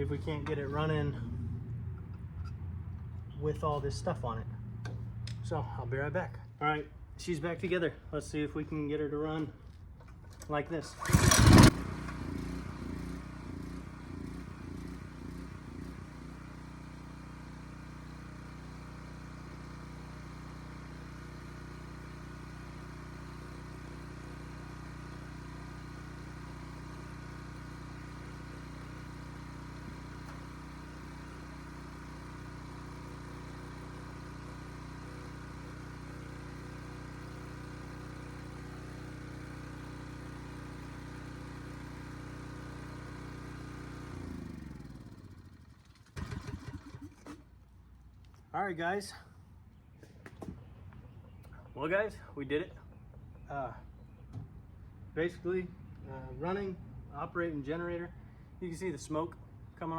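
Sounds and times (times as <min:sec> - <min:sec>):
generator engine running: 0:00.0 - 0:49.2.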